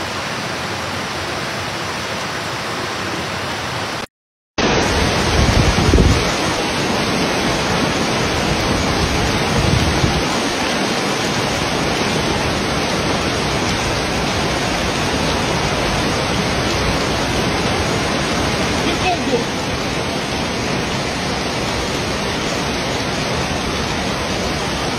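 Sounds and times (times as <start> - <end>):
floodwater rushing: 0.0 - 24.9.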